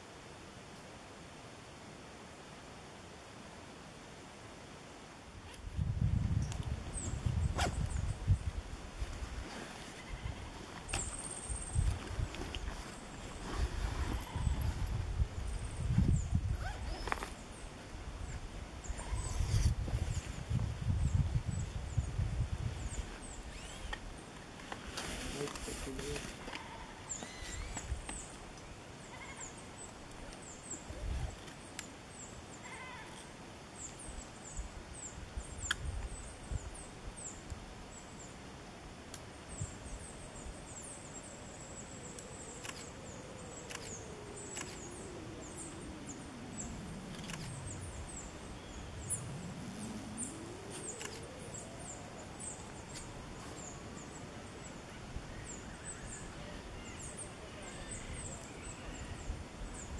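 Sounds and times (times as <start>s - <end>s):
small birds chirping: 6.1s - 38.4s, 39.4s - 59.9s.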